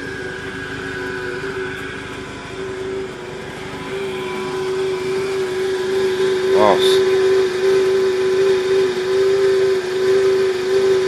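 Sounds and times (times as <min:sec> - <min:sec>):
constant whining tone: 0:00.0 - 0:11.0.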